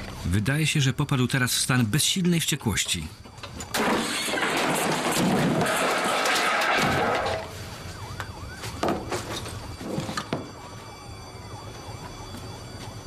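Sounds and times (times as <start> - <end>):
distant sirens wailing: 0.0 - 13.0.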